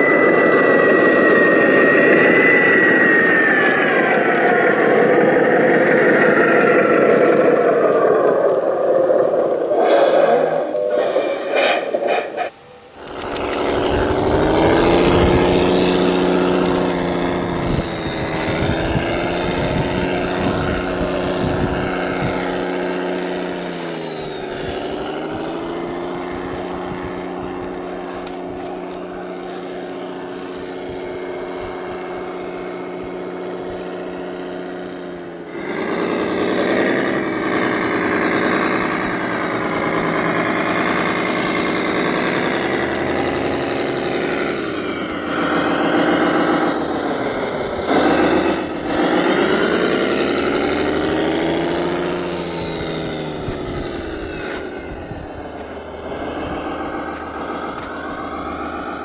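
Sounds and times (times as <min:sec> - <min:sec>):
rougher engine sound: 0:00.0 - 0:59.0
toy vehicle engine running: 0:00.0 - 0:59.0.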